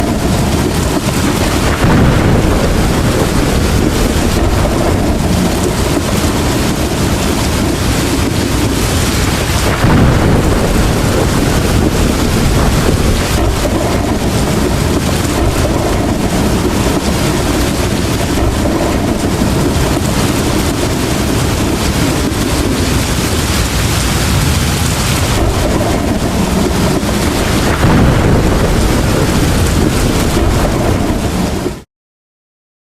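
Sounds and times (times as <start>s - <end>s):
thunder rumbling: 0.0s - 31.8s
steady rain pouring: 0.0s - 31.9s.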